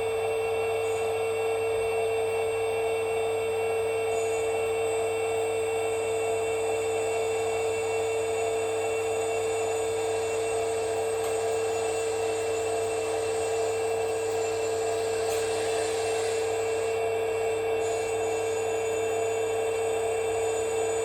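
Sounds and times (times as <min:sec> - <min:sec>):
model machinery motor whine: 0:00.0 - 0:21.0.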